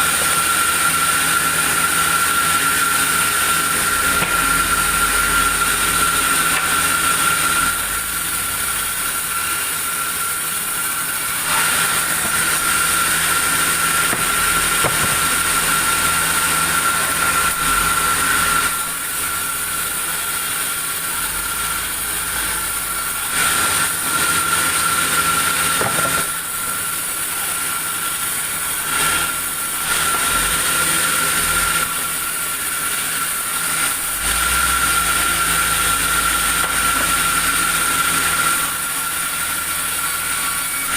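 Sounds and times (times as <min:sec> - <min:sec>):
sawmill saw whining: 0:00.0 - 0:40.9.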